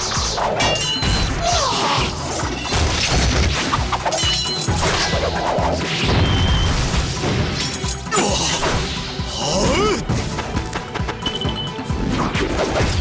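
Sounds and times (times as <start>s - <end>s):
dramatic background music: 0.0s - 13.0s.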